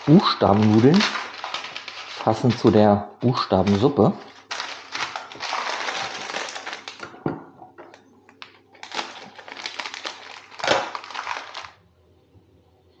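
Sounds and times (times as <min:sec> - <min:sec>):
plastic packaging crinkling: 0:00.0 - 0:07.2, 0:08.3 - 0:11.8.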